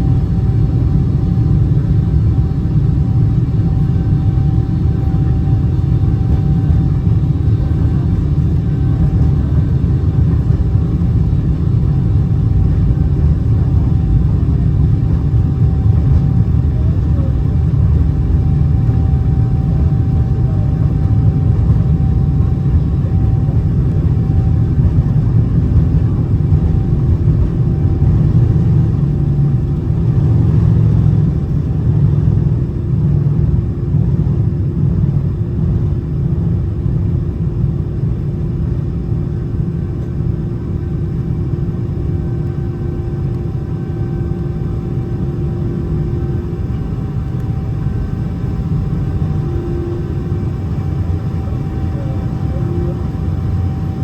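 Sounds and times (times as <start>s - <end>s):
jet engines rumbling during takeoff: 0.0s - 54.0s.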